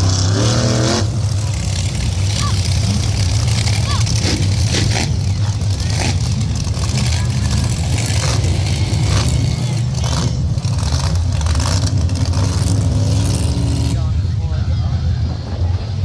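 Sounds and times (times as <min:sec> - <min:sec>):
monster truck engines running: 0:00.0 - 0:16.0.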